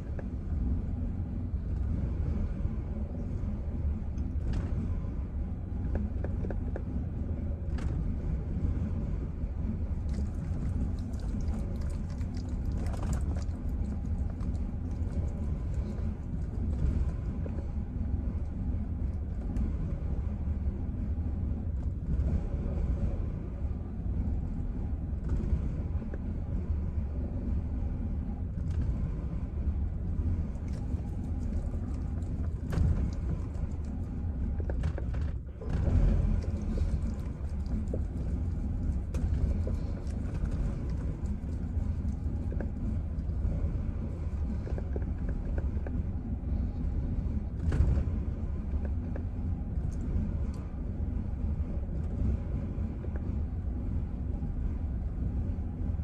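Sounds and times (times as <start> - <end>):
truck engine idling roughly: 0.0 - 56.0.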